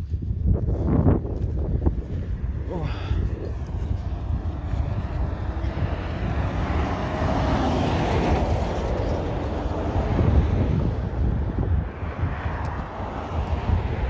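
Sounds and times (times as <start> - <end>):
wind buffeting microphone: 0.0 - 14.0
vehicle passing by: 0.6 - 14.0.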